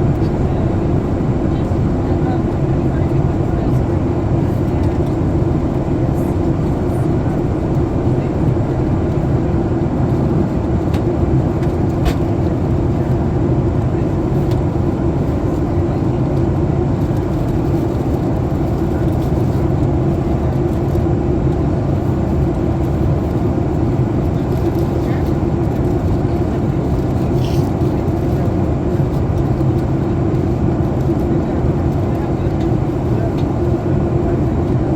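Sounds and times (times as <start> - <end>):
airplane cabin drone: 0.0 - 34.9.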